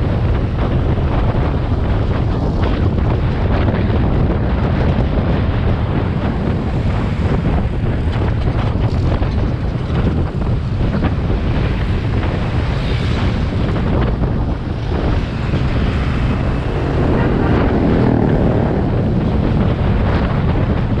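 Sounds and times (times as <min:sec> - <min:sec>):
motorcycle ride rumble: 0:00.0 - 0:21.0
wind buffeting microphone: 0:00.0 - 0:21.0.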